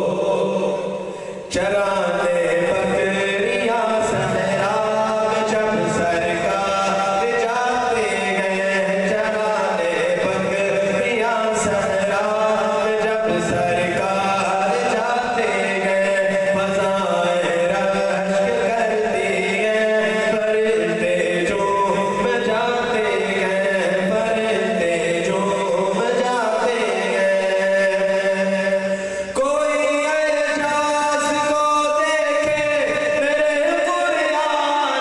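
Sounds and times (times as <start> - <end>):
man singing unaccompanied: 0.0 - 35.0.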